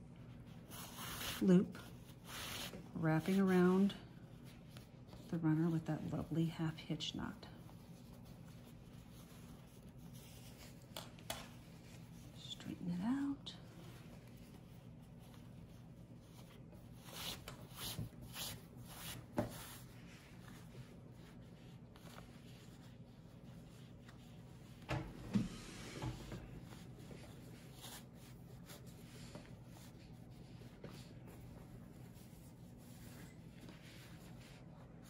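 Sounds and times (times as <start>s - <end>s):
fabric strips rustling and rubbing: 0.0s - 6.8s, 7.4s - 35.0s.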